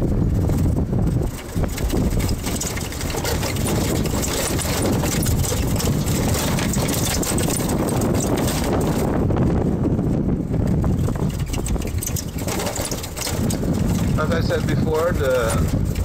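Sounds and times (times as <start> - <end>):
vehicle engine rumble: 0.0 - 16.0
knocks and rattles: 0.4 - 9.4, 10.6 - 16.0.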